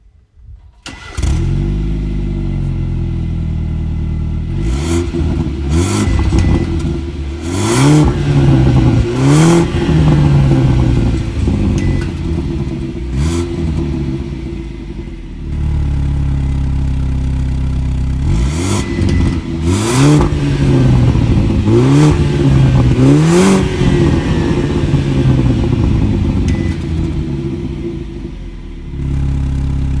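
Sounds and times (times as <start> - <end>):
car engine revving and idling: 0.9 - 30.0.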